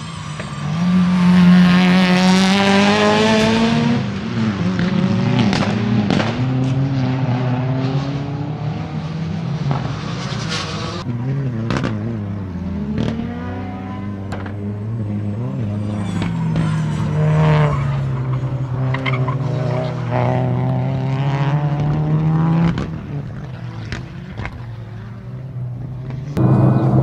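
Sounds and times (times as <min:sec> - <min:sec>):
rally car engine at full throttle: 0:00.0 - 0:27.0.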